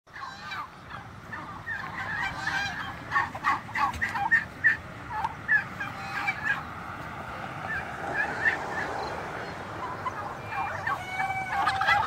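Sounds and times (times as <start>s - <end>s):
turkeys calling: 0.1s - 12.0s.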